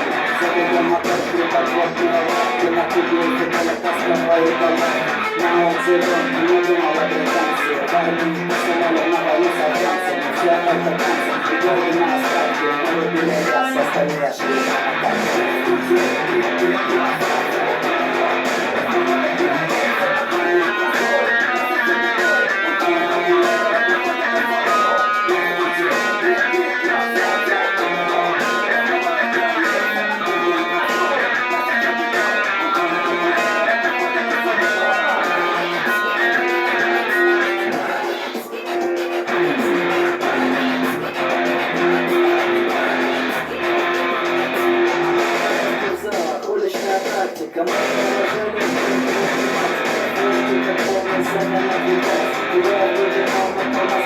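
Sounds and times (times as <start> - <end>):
instrumental guitar music: 0.0 - 54.0.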